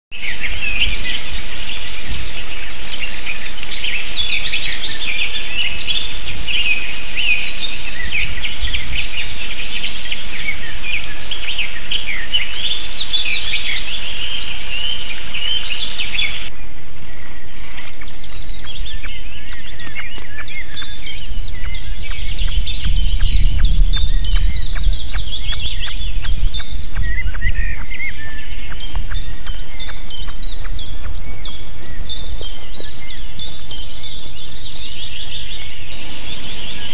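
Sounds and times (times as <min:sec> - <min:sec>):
songbirds chirping and trilling: 0:00.1 - 0:36.9.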